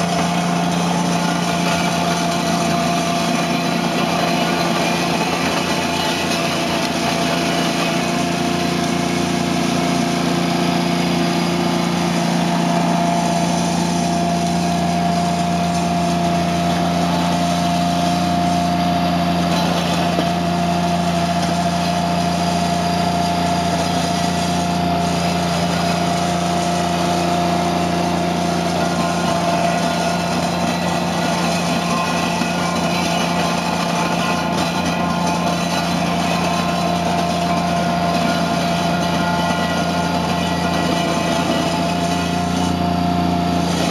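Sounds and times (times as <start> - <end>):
loader engine running: 0.0 - 43.9
roller churning gravel: 0.0 - 43.9.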